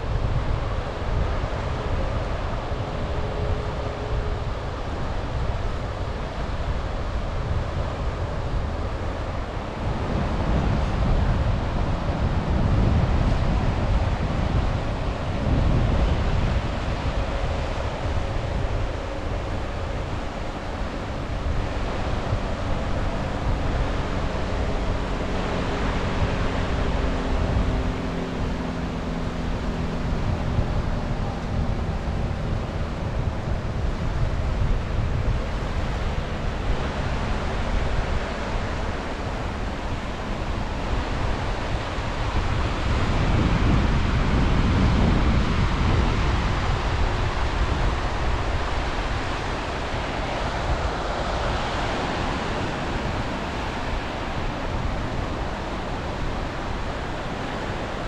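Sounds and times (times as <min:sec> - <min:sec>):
sea waves washing onto shore: 0:00.0 - 0:58.0
wind rumbling on microphone: 0:00.0 - 0:58.0.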